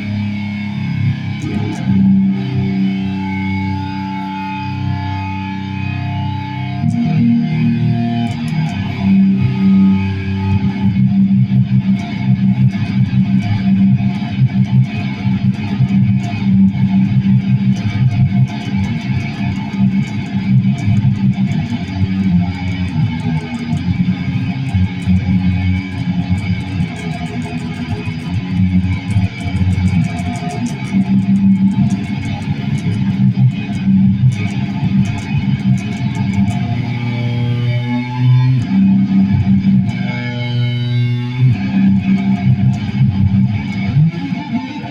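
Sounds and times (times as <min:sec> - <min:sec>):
electric guitar low notes: 0:00.0 - 0:44.9.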